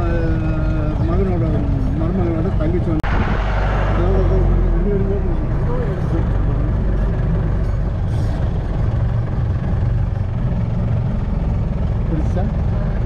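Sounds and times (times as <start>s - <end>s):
road rumble: 0.0s - 13.0s
vehicle engine running: 0.0s - 13.0s.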